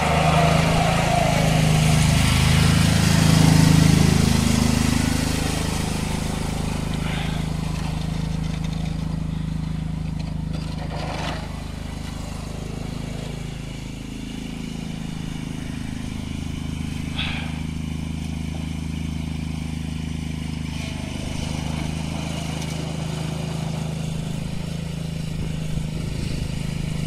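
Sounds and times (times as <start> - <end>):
garden tractor engine running: 0.0 - 27.0.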